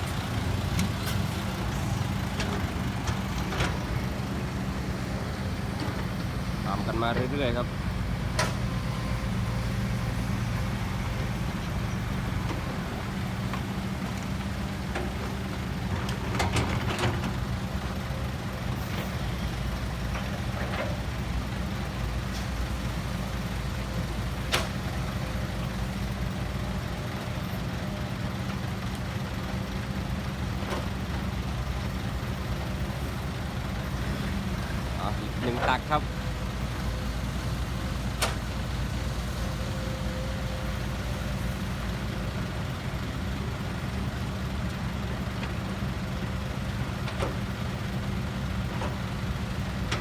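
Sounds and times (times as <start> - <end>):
diesel machinery engine hum: 0.0 - 50.0.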